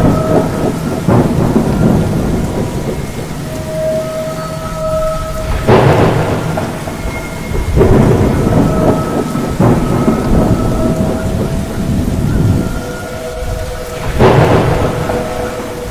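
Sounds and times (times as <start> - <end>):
faint whistling tones: 0.0 - 15.9
heavy rain: 0.0 - 15.9
thunder cracks rolling: 0.0 - 15.9.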